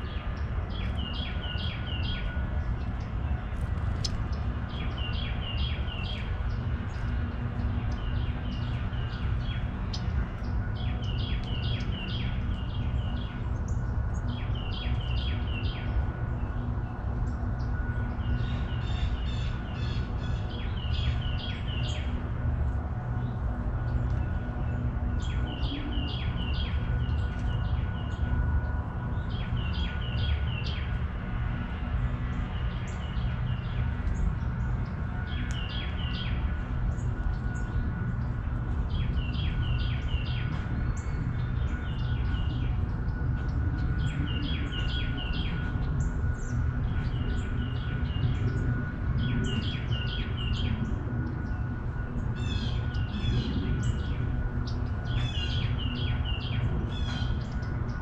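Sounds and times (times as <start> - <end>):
birds chirping: 0.0 - 22.4, 23.0 - 58.0.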